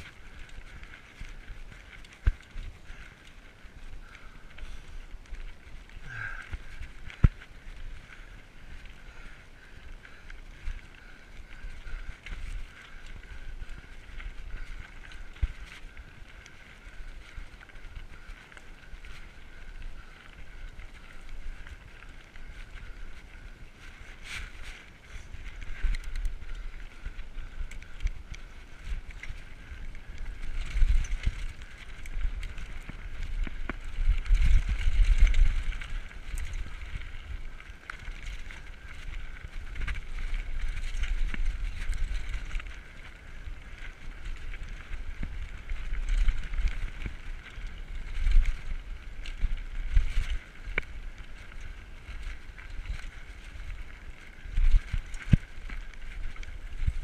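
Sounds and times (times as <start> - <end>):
bike rattling over rocks: 0.0 - 57.0
bike tyres crunching on gravel: 0.0 - 57.0
wind buffeting microphone: 0.0 - 57.0.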